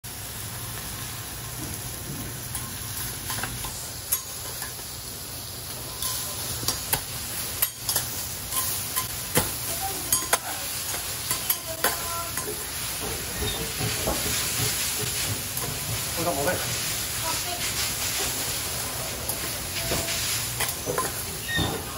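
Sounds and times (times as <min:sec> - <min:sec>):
food sizzling on a griddle: 0:00.1 - 0:21.9.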